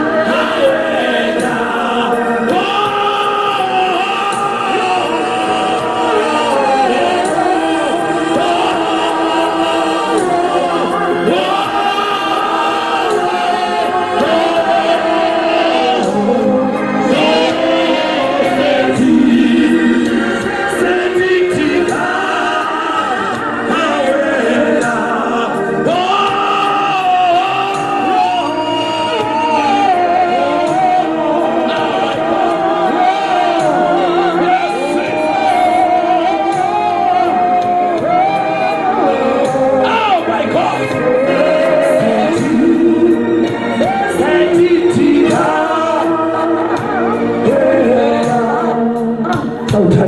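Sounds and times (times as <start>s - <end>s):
choir singing gospel song: 0.0s - 50.0s.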